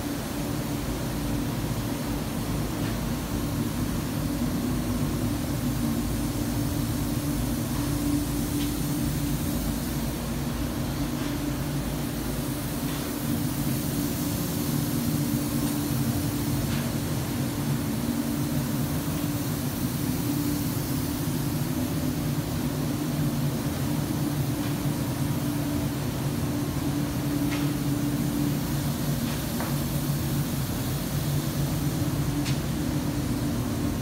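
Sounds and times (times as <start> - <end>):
ventilation fans humming: 0.0 - 34.0.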